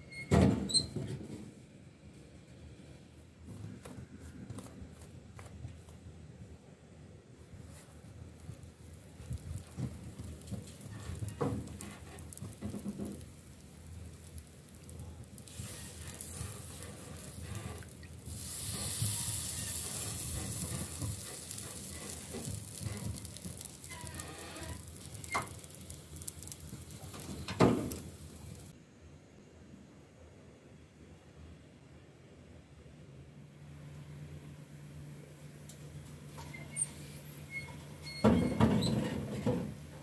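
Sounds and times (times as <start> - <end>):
steady hiss: 1.7 - 40.0.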